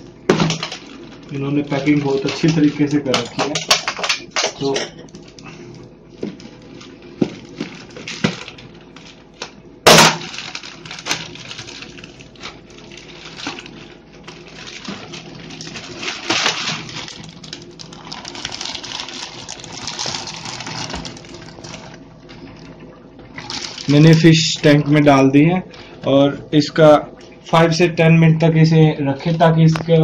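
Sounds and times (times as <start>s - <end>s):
plastic bag crinkling: 0.4s - 5.4s, 6.1s - 22.8s, 23.4s - 25.9s.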